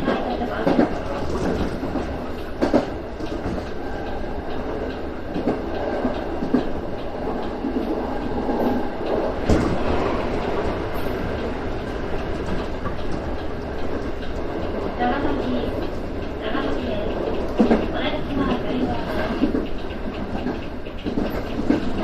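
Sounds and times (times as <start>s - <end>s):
train running noise: 0.0s - 22.0s
wheels clacking over rail joints: 0.0s - 22.0s.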